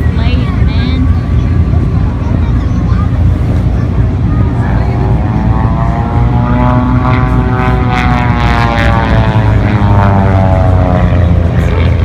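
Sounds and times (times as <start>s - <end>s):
propeller airplane flying past: 0.0s - 12.0s.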